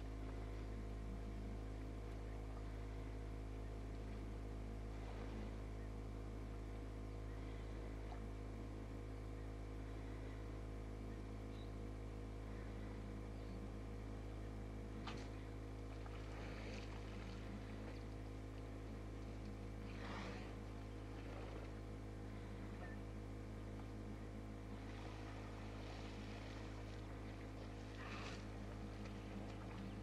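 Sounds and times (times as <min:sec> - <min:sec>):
engine idling hum: 0:00.0 - 0:30.0.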